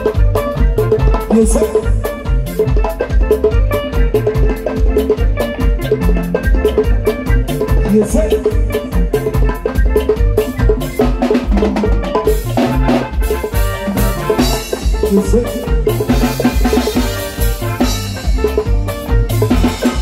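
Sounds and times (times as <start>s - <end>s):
bass guitar: 0.0s - 20.0s
drum kit beat: 0.0s - 20.0s
electric guitar: 0.0s - 20.0s
keyboard: 0.0s - 20.0s.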